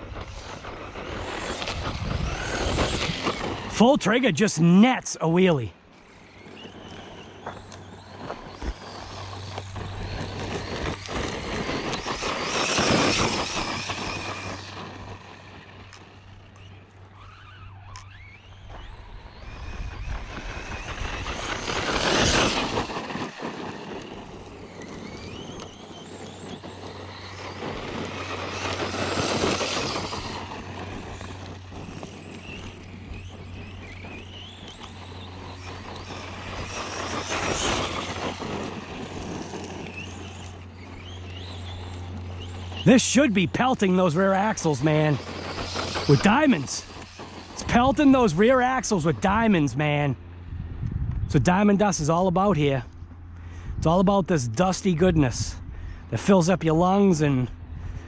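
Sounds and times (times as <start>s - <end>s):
tyres running over gravel: 0.0s - 50.2s
electric motor accelerating: 0.0s - 58.0s.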